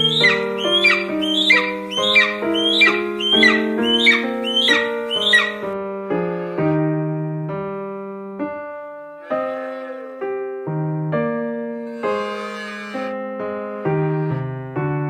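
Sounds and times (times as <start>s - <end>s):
electric piano music: 0.0s - 15.0s.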